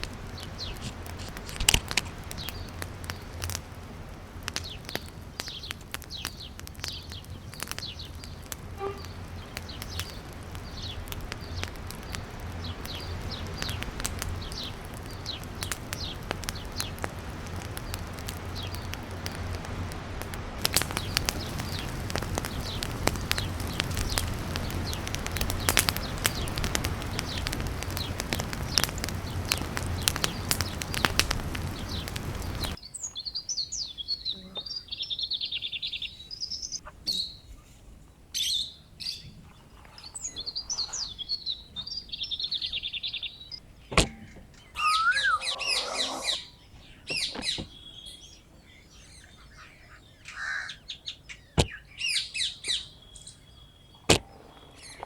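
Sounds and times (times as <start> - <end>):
crackling with sharp pops: 0.0 - 33.3, 39.5 - 49.8, 51.3 - 55.0
birds chirping: 0.0 - 55.0.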